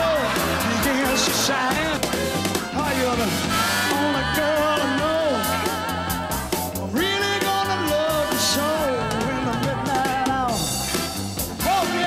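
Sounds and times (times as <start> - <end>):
upbeat soul music with singing: 0.0 - 12.0.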